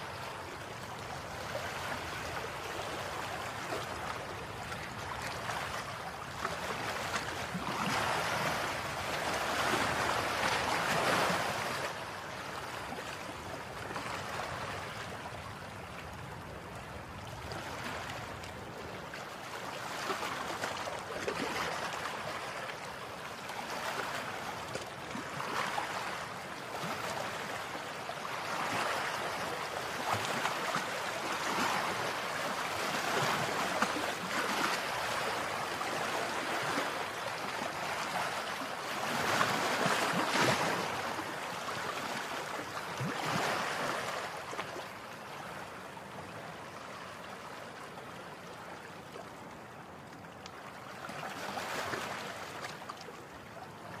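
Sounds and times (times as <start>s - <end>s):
small waves washing up a beach: 0.0s - 54.0s.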